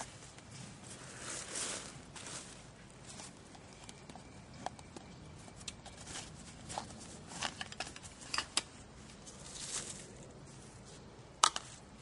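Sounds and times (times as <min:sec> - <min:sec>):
camping gear clicks and rustles: 0:00.0 - 0:11.8.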